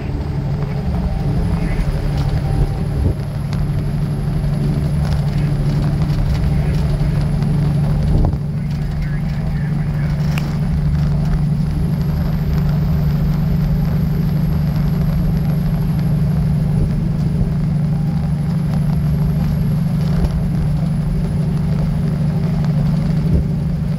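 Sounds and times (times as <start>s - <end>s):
thin high whine: 0.0s - 23.3s
diesel truck engine droning: 0.0s - 23.9s.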